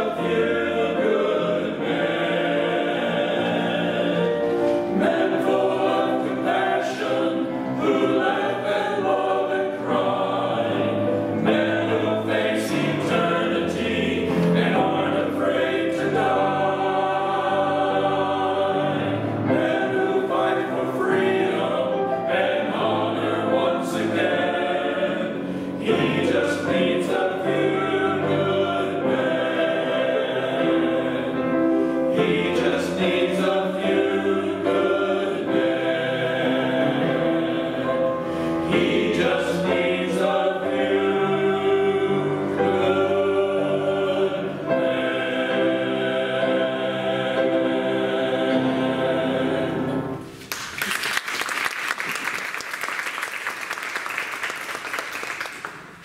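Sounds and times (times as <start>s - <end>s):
men's choir singing: 0.0s - 50.2s
grand piano: 0.0s - 56.0s.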